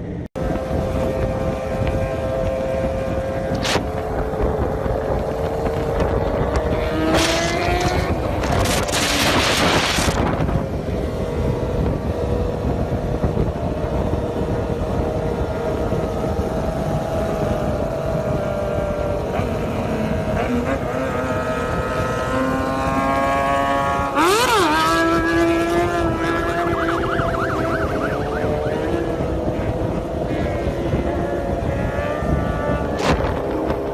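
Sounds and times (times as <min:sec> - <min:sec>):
wind rush: 0:00.0 - 0:33.9
motorcycle engine revving: 0:00.4 - 0:33.9.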